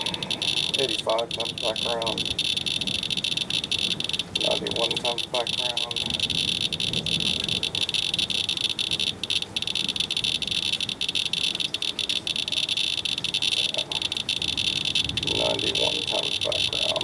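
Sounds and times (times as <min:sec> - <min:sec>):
geiger counter clicking rapidly: 0:00.0 - 0:17.0.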